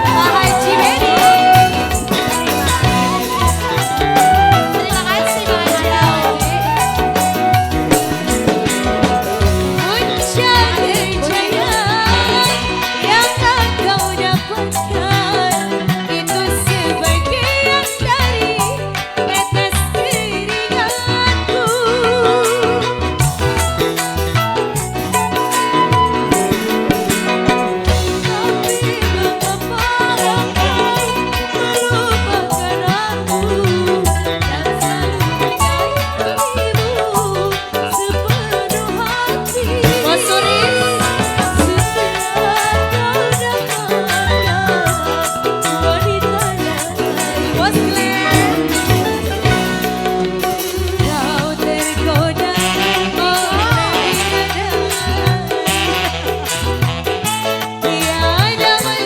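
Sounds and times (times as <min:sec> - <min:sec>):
busy percussion beat: 0:00.0 - 0:59.0
loud band music: 0:00.0 - 0:59.0.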